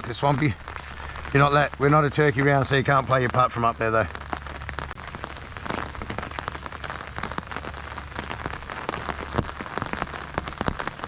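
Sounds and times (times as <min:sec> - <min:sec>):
rain drops pattering: 0:00.0 - 0:11.0.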